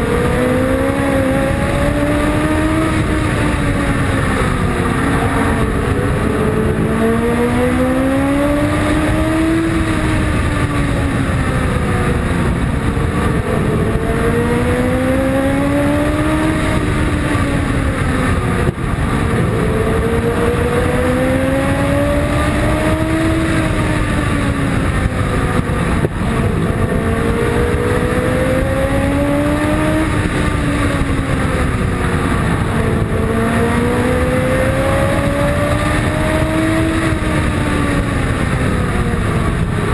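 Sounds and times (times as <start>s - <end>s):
race car engine revving: 0.0s - 39.9s
wind rushing over car: 0.0s - 39.9s.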